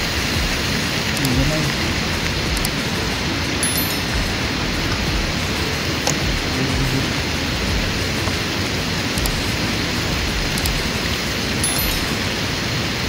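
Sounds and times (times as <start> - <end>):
rain falling on forest: 0.0 - 13.0.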